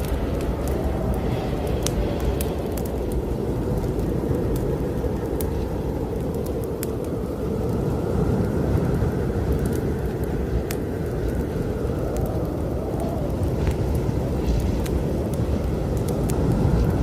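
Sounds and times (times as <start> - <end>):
blizzard wind blowing: 0.0 - 17.0
wood fire crackling: 0.0 - 17.0.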